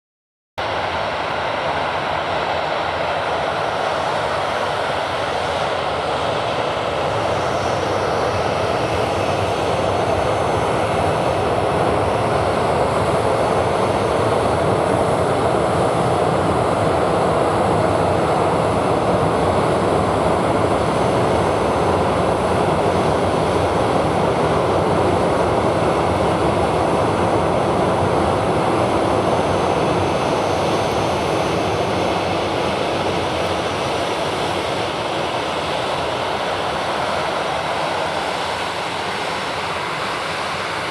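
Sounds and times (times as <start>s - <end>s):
jet engines roaring: 0.6s - 40.9s.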